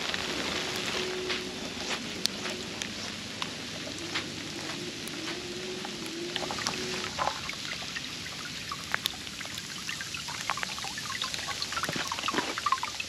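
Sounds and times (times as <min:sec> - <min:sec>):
hiss of falling ice and snow: 0:00.0 - 0:13.0.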